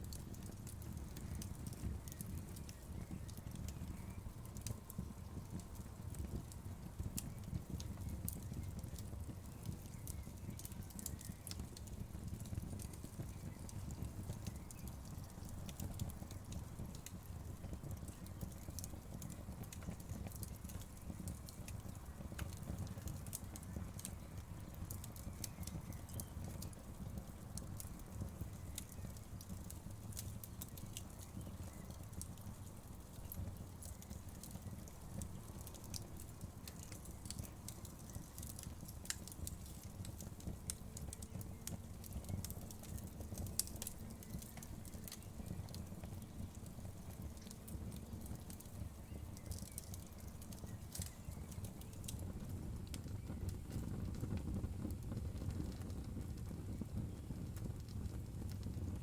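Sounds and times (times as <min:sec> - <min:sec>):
fire pops and snaps: 0:00.0 - 0:59.0
wood fire crackling: 0:00.0 - 0:59.0.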